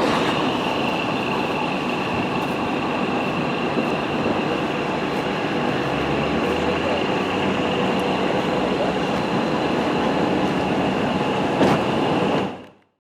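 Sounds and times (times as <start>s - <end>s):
diesel engine running: 0.0s - 12.6s.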